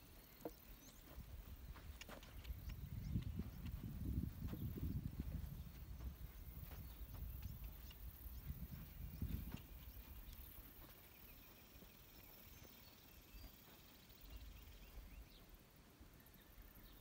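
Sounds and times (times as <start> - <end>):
bird-like chirps: 0.0 - 15.6.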